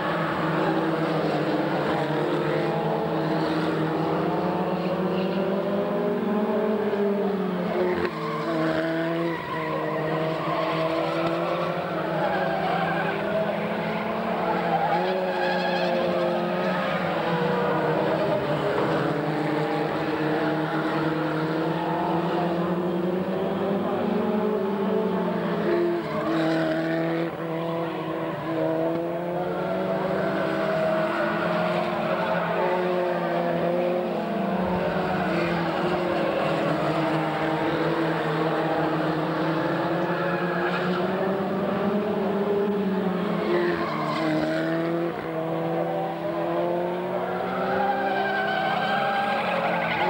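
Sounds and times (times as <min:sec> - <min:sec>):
race car engines: 0:00.0 - 0:50.0.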